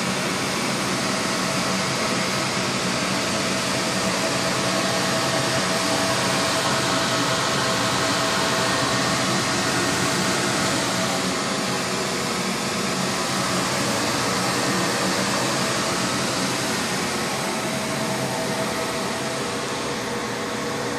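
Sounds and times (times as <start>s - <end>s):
whooshing cooling fans: 0.0s - 20.9s.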